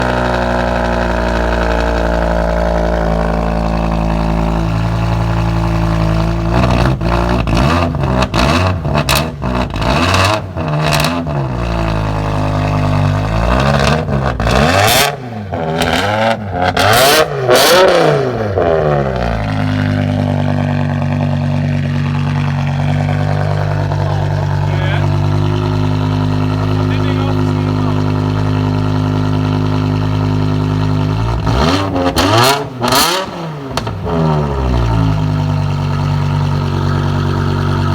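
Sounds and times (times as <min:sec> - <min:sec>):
car engine revving: 0:00.0 - 0:37.9
exhaust cracks: 0:00.0 - 0:37.9.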